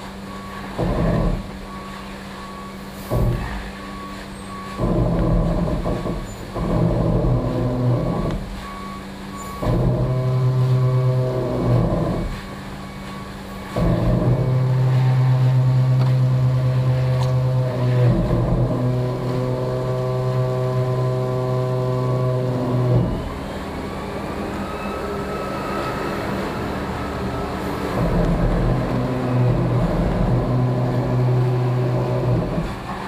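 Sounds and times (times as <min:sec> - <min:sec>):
diesel truck engine revving and idling: 0:00.0 - 0:33.0.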